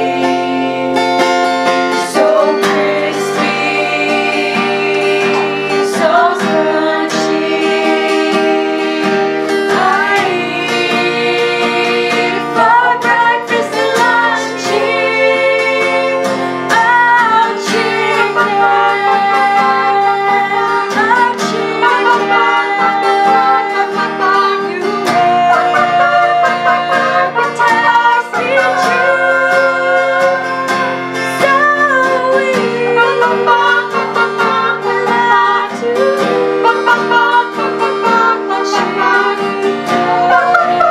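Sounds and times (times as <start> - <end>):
acoustic guitar: 0.0 - 40.9
girls singing together: 0.0 - 40.9.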